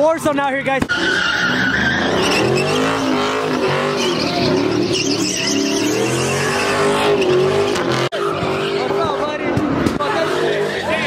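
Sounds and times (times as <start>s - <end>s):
tires screeching on pavement: 0.8s - 11.0s
car engine revving: 0.9s - 11.0s.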